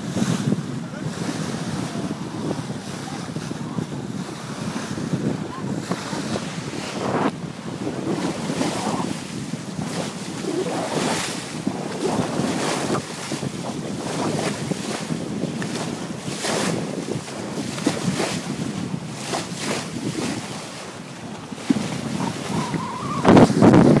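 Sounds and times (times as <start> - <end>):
water rushing along boat hull: 0.0 - 24.0
wind buffeting microphone: 0.0 - 24.0.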